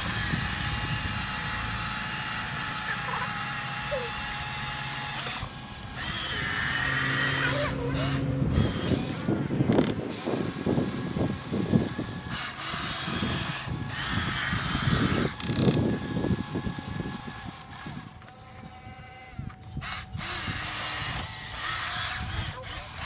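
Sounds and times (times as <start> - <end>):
small electric motor whining: 0.0 - 23.0.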